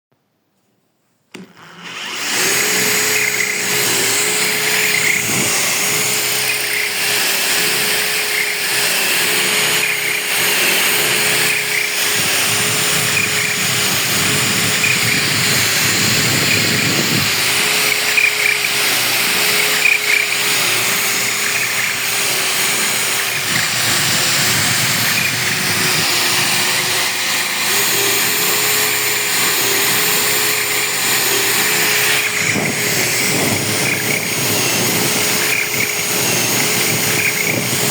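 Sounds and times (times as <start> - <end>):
blade sharpener machine running: 1.3 - 37.9.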